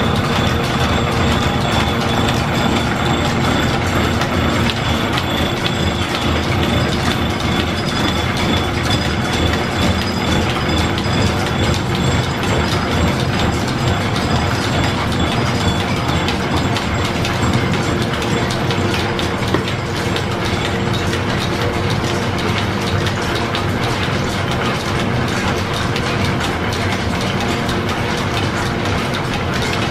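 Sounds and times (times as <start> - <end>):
belt-driven machinery clattering: 0.0 - 29.9.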